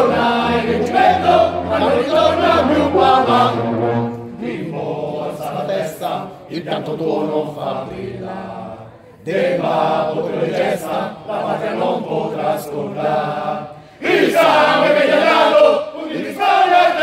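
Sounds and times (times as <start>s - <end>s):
chorus singing: 0.0s - 17.0s.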